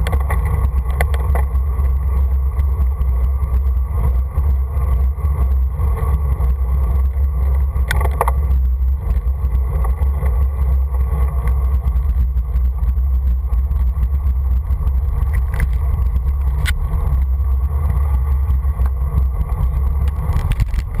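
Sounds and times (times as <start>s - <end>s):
tyre noise on asphalt: 0.0s - 21.0s
wind rumbling on microphone: 0.0s - 21.0s.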